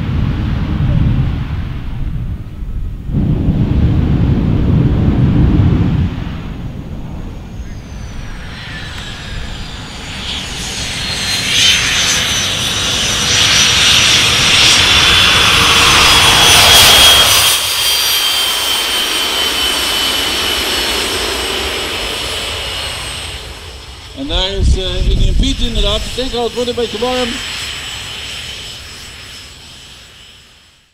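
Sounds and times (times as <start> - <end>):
jet engine whine and rush: 0.0 - 30.9.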